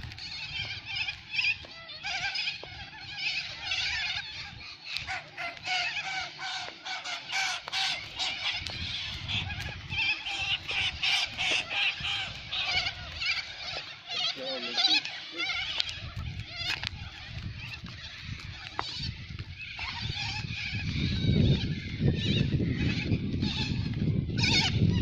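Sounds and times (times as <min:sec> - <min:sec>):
birds calling and chattering: 0:00.0 - 0:25.0.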